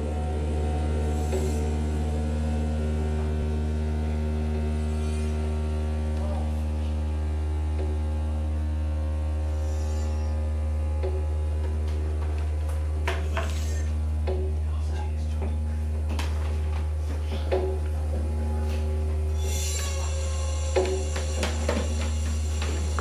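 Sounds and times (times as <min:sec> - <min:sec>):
deep hum through sound system: 0:00.0 - 0:23.0.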